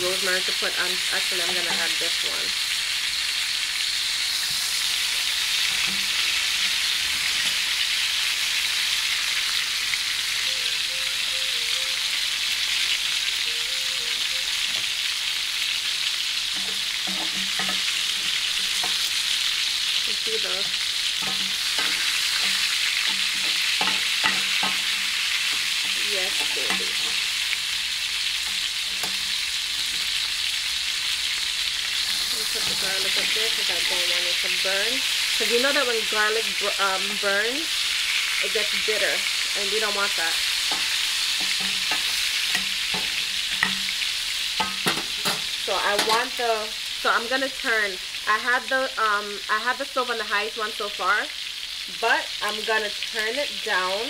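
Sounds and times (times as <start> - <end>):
steak sizzling in a pan: 0.0 - 54.0.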